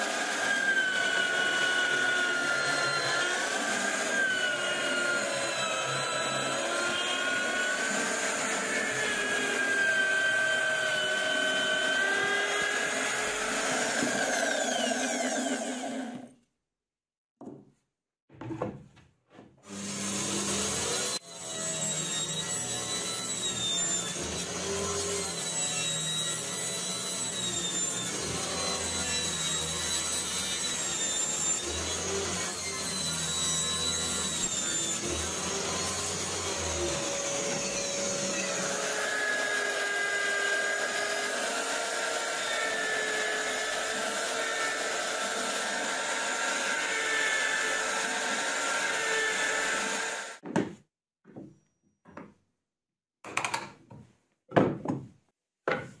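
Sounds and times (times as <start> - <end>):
drill press boring wood: 0.0 - 16.3, 19.7 - 50.4
table saw cutting plywood: 0.0 - 16.4, 19.3 - 50.4.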